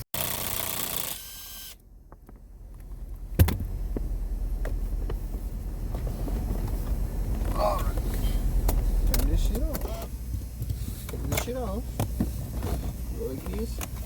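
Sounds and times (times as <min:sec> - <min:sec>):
low steady hum: 0:01.1 - 0:14.0.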